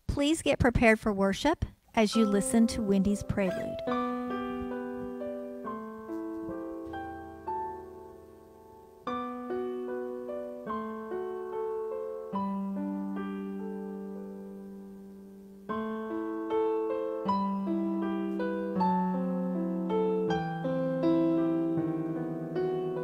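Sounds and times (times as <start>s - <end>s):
slow piano piece: 2.1s - 23.0s.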